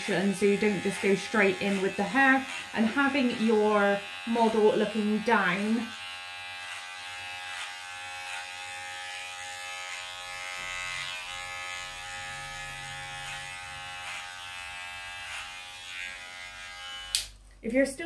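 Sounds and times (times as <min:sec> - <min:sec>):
electric hair clippers buzzing: 0:00.0 - 0:17.4.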